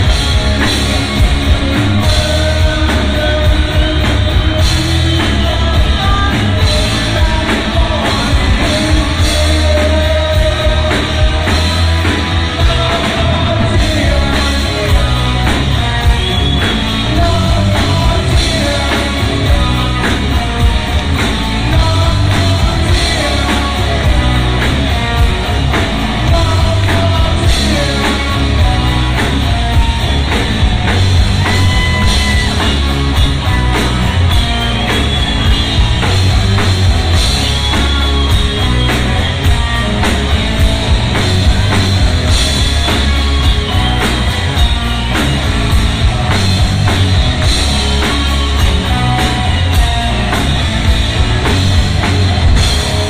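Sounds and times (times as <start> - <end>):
bass: 0.0 - 53.0
drum kit: 0.0 - 53.0
electric guitars: 0.0 - 53.0.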